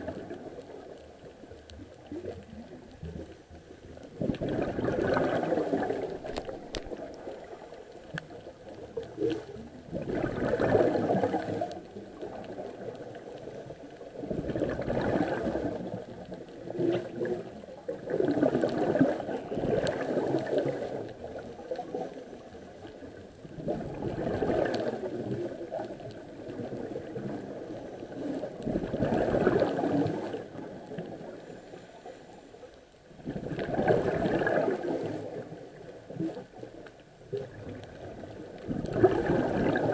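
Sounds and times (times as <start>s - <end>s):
regulator bubbles gurgling: 0.0s - 39.9s
steady water hiss: 0.0s - 39.9s.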